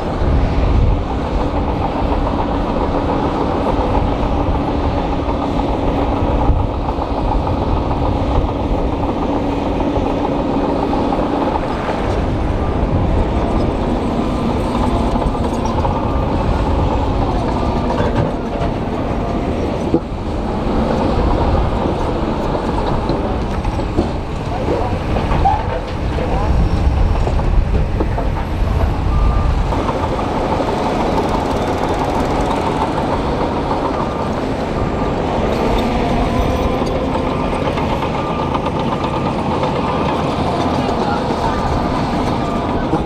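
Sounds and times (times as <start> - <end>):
dump truck tipping rock and soil: 0.0 - 43.0
heavy diesel machinery running: 0.0 - 43.0.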